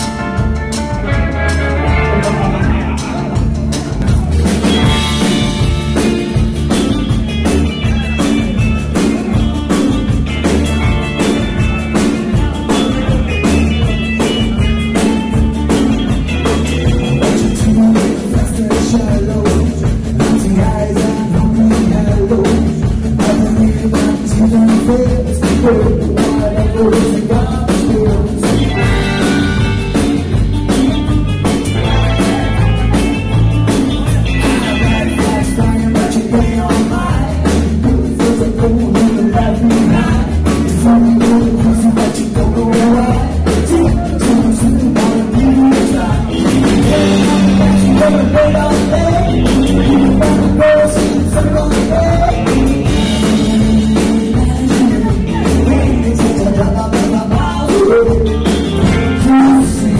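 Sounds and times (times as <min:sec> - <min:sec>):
drum kit beat: 0:00.0 - 0:59.9
electric bass: 0:00.0 - 0:59.9
electric guitars: 0:00.0 - 0:59.9.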